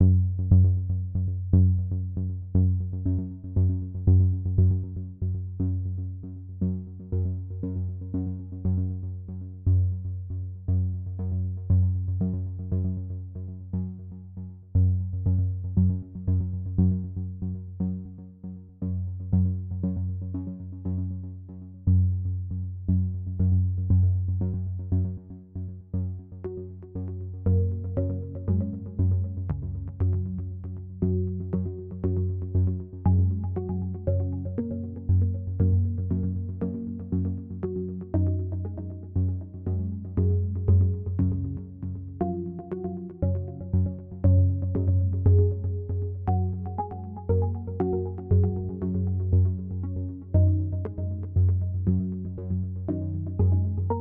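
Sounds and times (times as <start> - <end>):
steady bass: 0.0 - 54.0.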